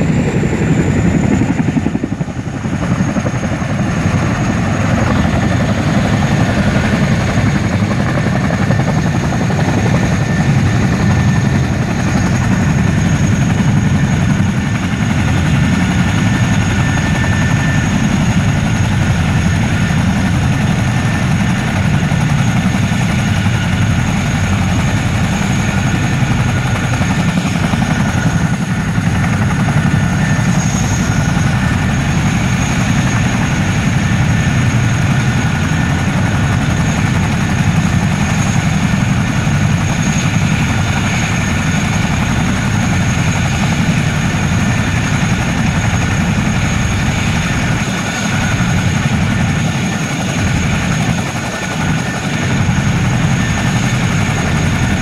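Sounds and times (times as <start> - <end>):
helicopter rotor beat: 0.0 - 55.0
turbine whine: 0.0 - 55.0.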